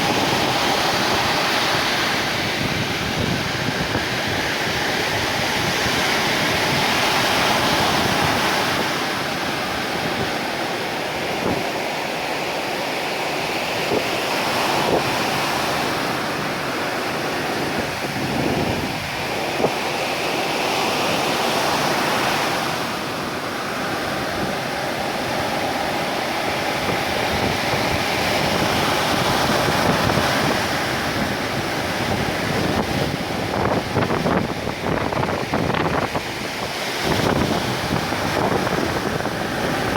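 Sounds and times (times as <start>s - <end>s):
ocean waves breaking on shore: 0.0s - 39.9s
wind buffeting microphone: 0.0s - 39.9s.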